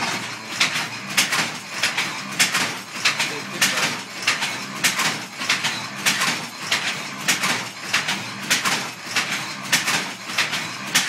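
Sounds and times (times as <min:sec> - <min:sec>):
wooden loom clacking: 0:00.0 - 0:11.0.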